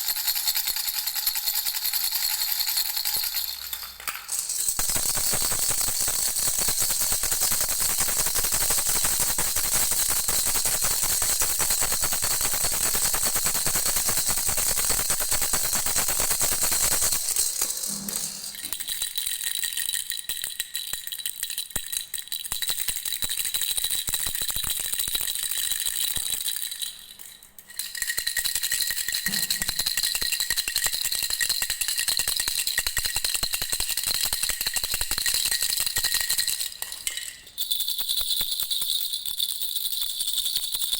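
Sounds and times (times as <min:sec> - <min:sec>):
baby's bell rattle shaken: 0:00.0 - 0:40.9.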